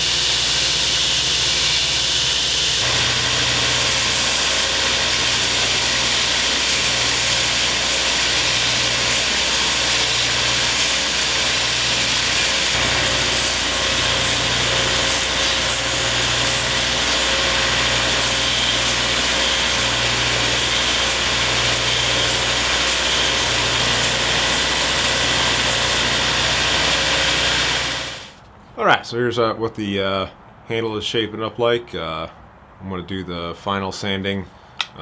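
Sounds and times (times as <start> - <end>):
belt grinder running: 0.0 - 28.4.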